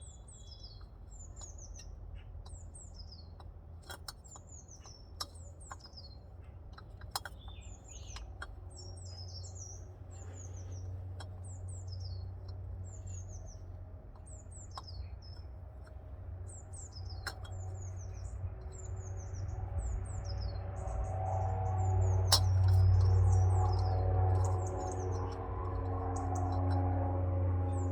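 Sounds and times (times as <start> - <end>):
small birds chirping: 0.0 - 27.9
steady low hum: 0.0 - 27.9.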